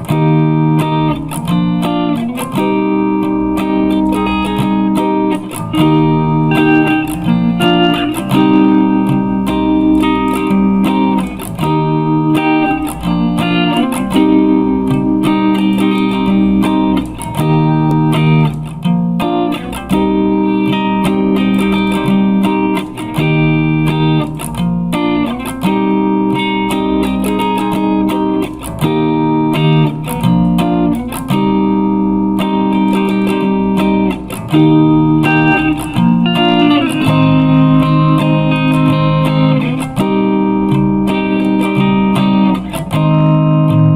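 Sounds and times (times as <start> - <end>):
plucked guitar chords: 0.0 - 43.9.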